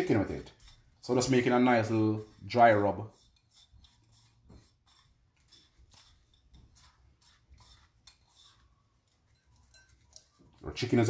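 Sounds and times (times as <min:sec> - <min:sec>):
fingers stirring dry spice rub: 0:00.0 - 0:11.0.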